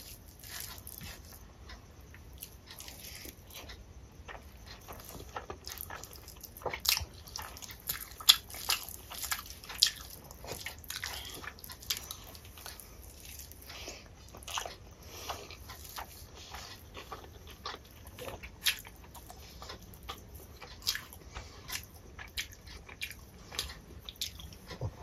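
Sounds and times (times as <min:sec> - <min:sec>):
wet chewing and lip smacks: 0:00.0 - 0:25.0.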